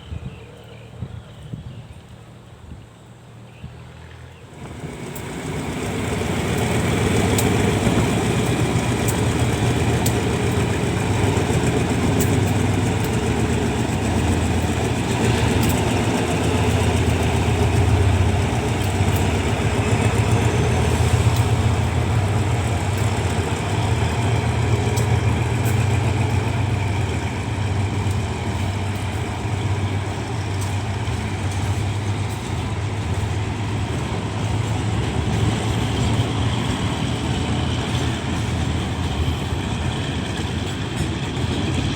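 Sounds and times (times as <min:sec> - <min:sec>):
diesel locomotive engine droning: 0:00.0 - 0:41.9.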